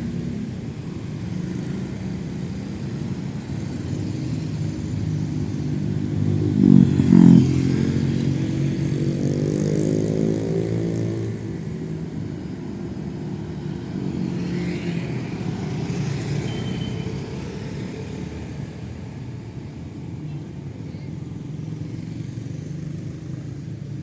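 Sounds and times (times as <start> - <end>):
motorcycles and cars passing: 0.0 - 24.0.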